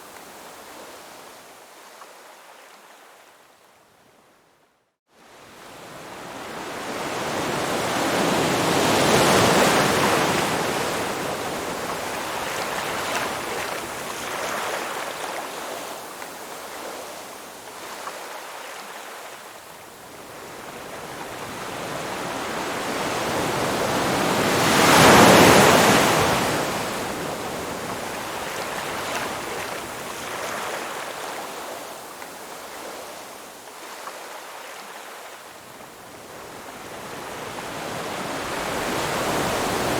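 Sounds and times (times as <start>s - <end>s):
ocean waves breaking on shore: 5.1s - 39.9s.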